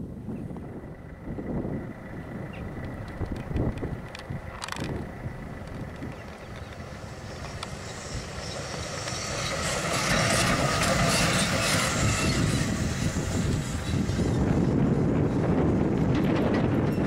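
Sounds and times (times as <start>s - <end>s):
electric locomotive passing: 0.0s - 17.0s.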